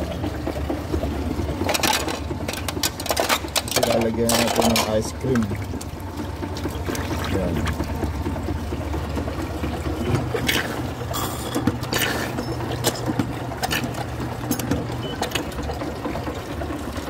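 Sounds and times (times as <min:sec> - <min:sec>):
ice cream machine humming: 0:00.0 - 0:17.0
liquid splashing: 0:00.0 - 0:17.0.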